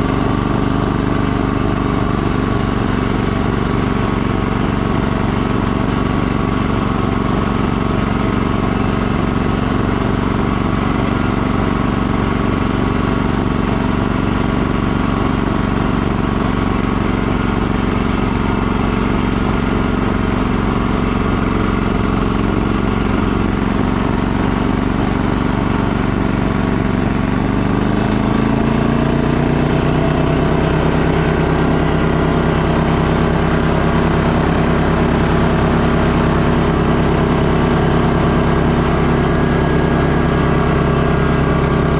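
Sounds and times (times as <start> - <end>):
snowblower engine running: 0.0 - 41.9.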